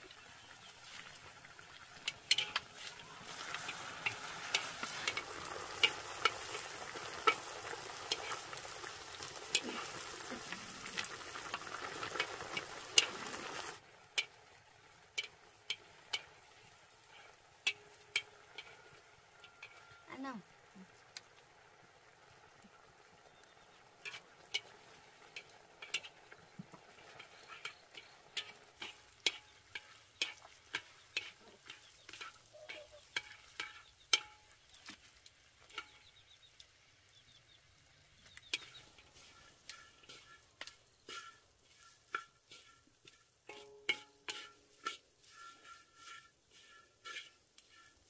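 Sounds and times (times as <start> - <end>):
faint sizzle: 0.0 - 48.0
chopsticks clicking against wok: 1.9 - 14.4, 15.0 - 20.0, 24.0 - 36.7, 38.2 - 48.0.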